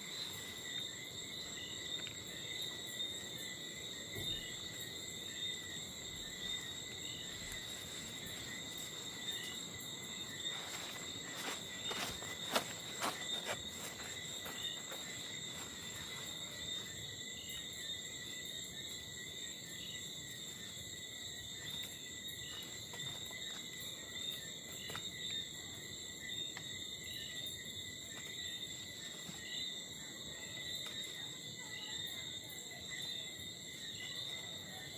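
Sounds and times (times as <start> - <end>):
crickets chirring: 0.0 - 34.9.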